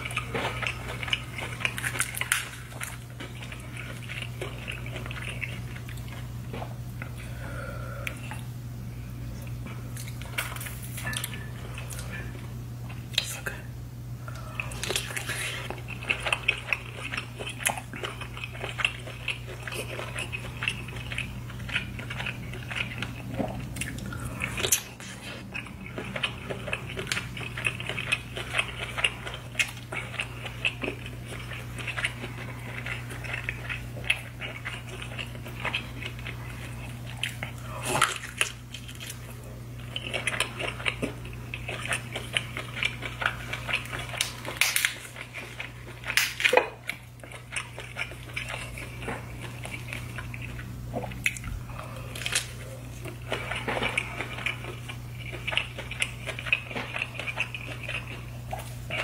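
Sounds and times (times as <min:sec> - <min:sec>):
close-miked chewing and smacking: 0:00.0 - 0:07.3, 0:09.3 - 0:59.0
steady low hum: 0:00.0 - 0:59.0.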